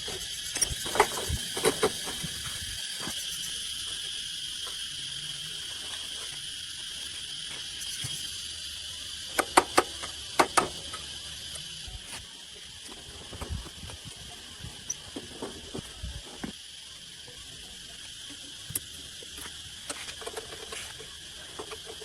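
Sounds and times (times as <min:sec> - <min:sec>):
welding arc hissing and crackling: 0:00.0 - 0:22.0.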